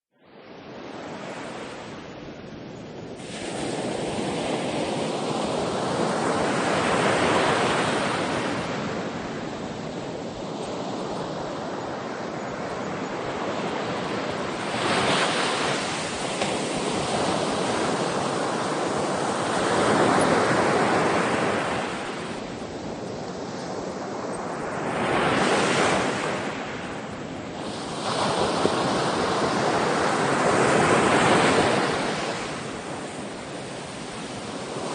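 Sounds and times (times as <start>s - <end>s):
ocean waves breaking on shore: 0.6s - 34.9s.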